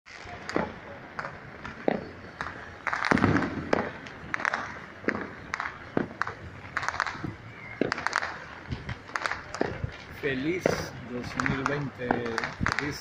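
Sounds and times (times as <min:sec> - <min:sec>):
fireworks and firecrackers banging: 0:00.1 - 0:13.0.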